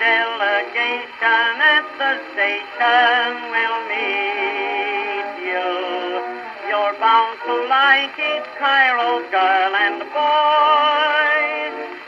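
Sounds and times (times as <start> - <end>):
old-time song with vibrato singing: 0.0 - 12.0.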